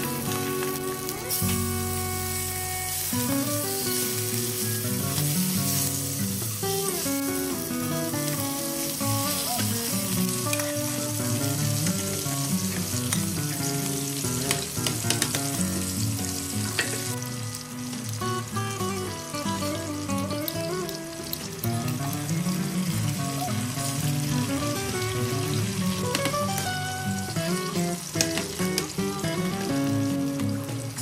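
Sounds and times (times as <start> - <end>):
background music: 0.0 - 31.0
fish sizzling in oil: 0.0 - 31.0.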